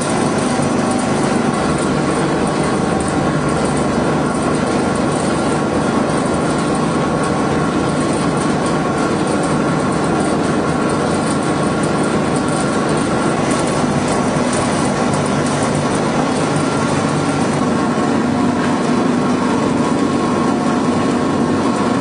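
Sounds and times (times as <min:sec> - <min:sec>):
machine running with loud din: 0:00.0 - 0:22.0.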